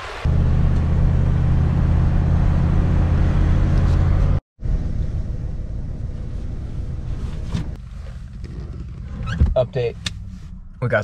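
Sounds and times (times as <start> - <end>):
van engine and road drone: 0.0 - 11.0.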